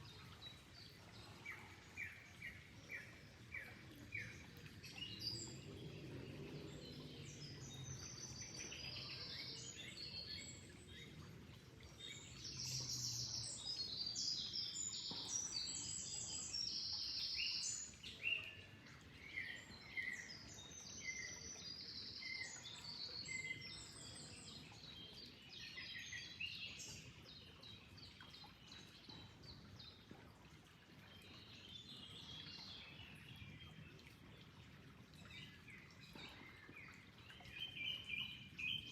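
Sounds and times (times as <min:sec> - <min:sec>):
faint flowing water: 0:00.0 - 0:38.9
small birds chirping and trilling: 0:00.1 - 0:38.9.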